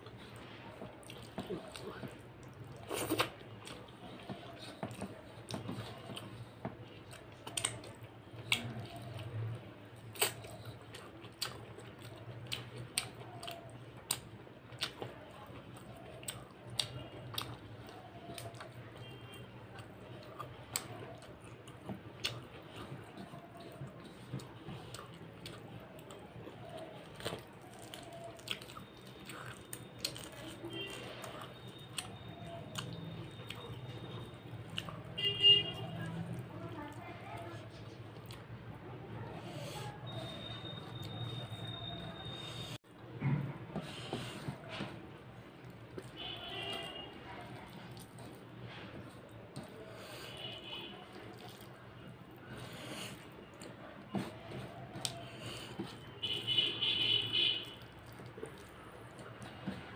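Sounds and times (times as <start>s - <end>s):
chewing and wet mouth smacks: 0.0s - 35.2s, 35.8s - 38.8s, 39.4s - 43.0s, 43.8s - 59.9s.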